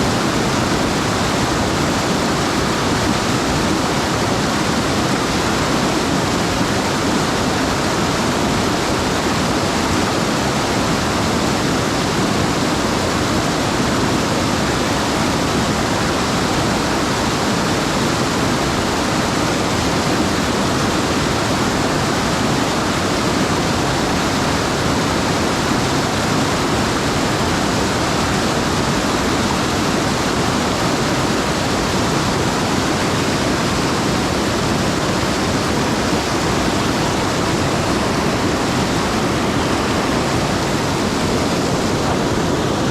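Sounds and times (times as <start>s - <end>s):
mountain stream rushing: 0.0s - 42.9s.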